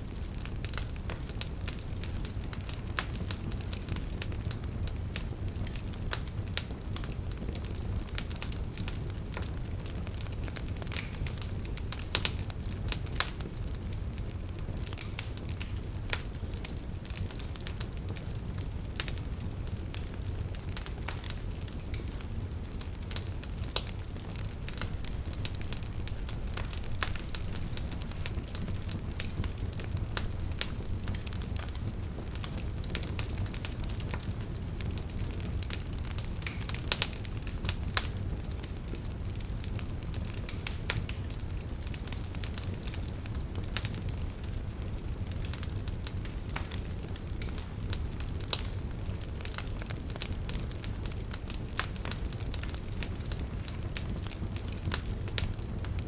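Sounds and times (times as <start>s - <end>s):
burning logs crackling and popping: 0.0s - 56.0s
low rumble of flames: 0.0s - 56.0s.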